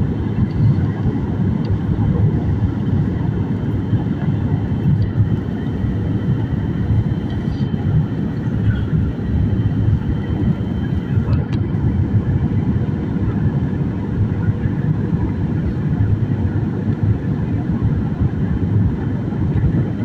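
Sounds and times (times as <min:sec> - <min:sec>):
aircraft rumble in flight: 0:00.0 - 0:20.0.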